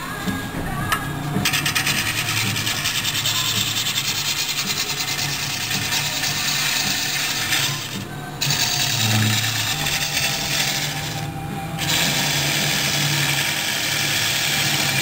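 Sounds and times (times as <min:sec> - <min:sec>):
gouge cutting wood on a lathe: 0:01.4 - 0:15.0.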